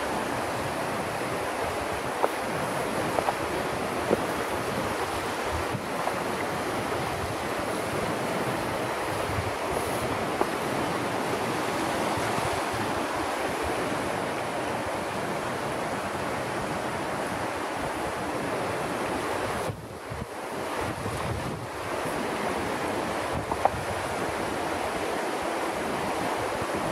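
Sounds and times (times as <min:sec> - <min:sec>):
river water rushing: 0:00.0 - 0:26.9
wind buffeting microphone: 0:00.0 - 0:26.9.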